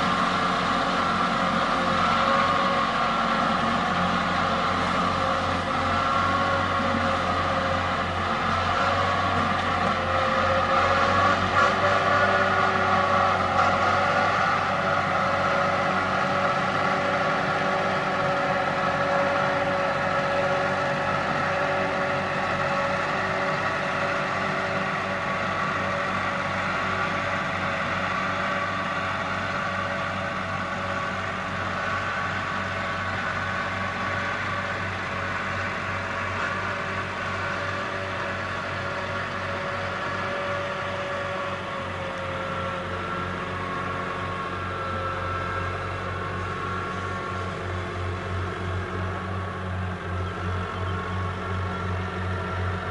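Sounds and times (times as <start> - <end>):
mower whining: 0.0 - 52.9
tractor engine running: 0.0 - 52.9.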